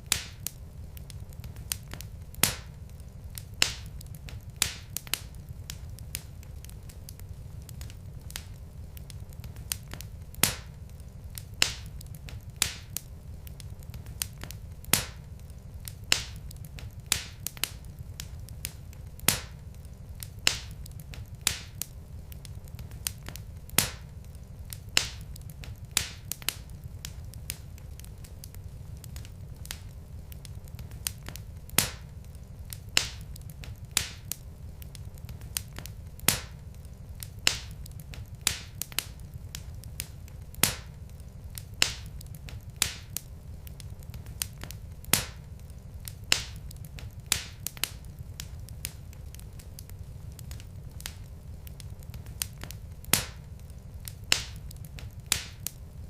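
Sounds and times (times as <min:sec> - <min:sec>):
fireplace fire crackling: 0:00.0 - 0:56.0
low rumble of burning logs: 0:00.0 - 0:56.0.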